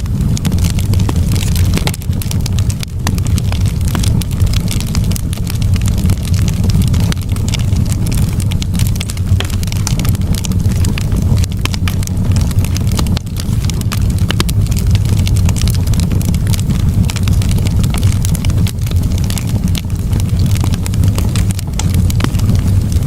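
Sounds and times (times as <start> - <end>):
burning wood snapping and popping: 0.0 - 23.0
campfire crackling: 0.0 - 23.0
low rumble: 0.0 - 23.0.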